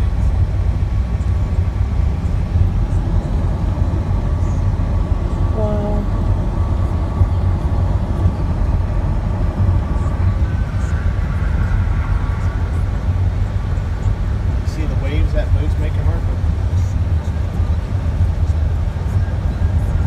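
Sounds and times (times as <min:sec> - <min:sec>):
car road and wind rumble: 0:00.0 - 0:20.0.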